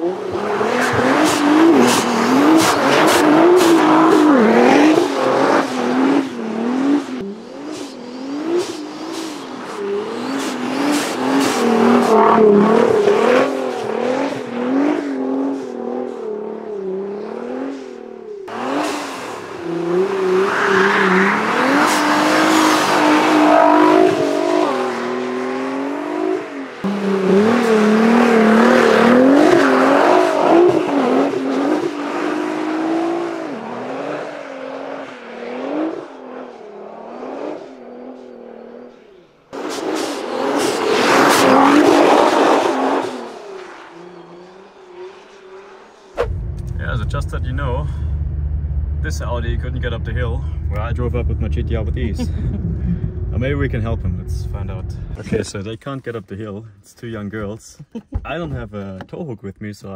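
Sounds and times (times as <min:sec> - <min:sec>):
car engine revving: 0:00.0 - 0:55.6.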